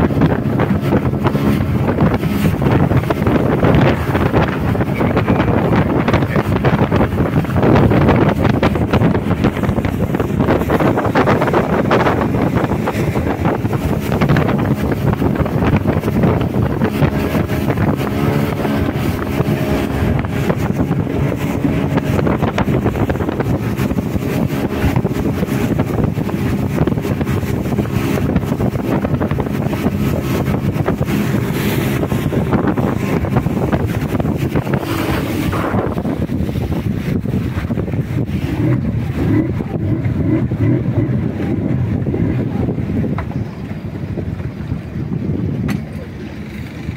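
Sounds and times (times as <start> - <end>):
motorboat engine running: 0.0 - 46.9
wind buffeting microphone: 0.0 - 46.9.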